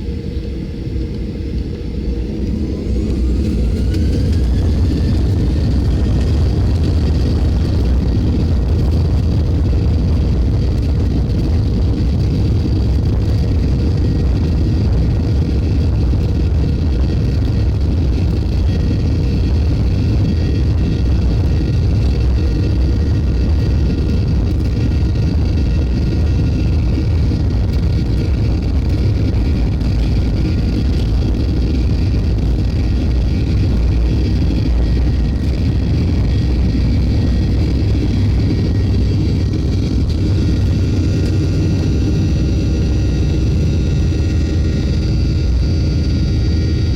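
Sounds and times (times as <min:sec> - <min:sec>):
faint whining tones: 0:00.0 - 0:46.9
jet engine cabin roar: 0:00.0 - 0:46.9.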